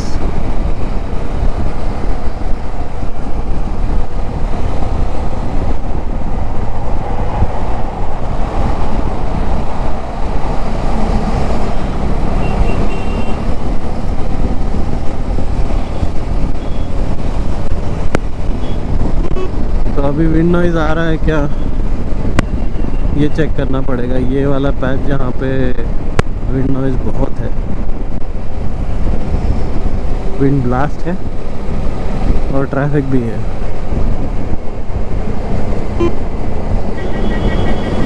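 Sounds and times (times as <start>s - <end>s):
passing traffic: 0.0s - 38.0s
road noise: 0.0s - 38.0s
wind buffeting microphone: 0.0s - 38.0s.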